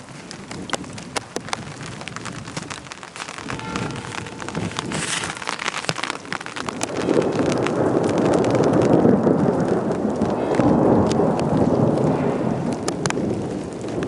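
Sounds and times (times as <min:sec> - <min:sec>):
rain falling: 0:00.0 - 0:14.0
raindrops ticking: 0:00.0 - 0:14.0.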